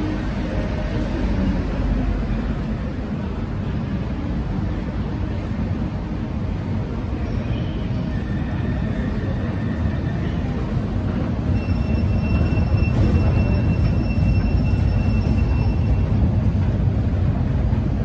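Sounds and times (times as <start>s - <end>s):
low rumble of metro station: 0.0s - 18.0s.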